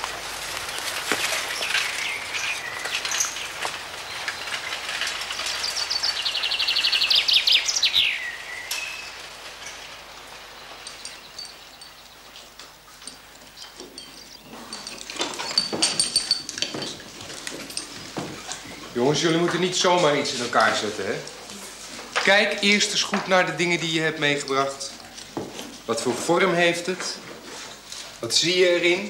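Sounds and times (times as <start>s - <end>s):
bicycle tyres rolling on leaves: 0.0s - 29.0s.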